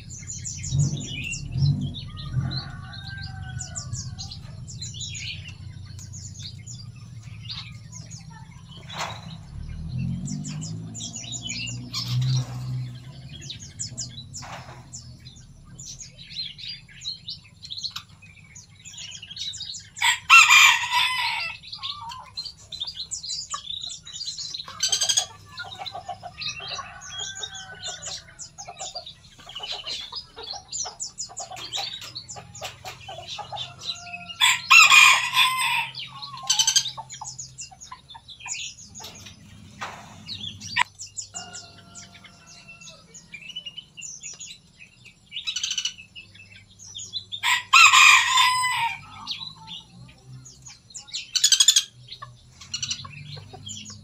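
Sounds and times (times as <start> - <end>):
loud long bird calls: 0.0 - 44.5, 45.2 - 49.9
songbirds chirping: 0.0 - 54.0.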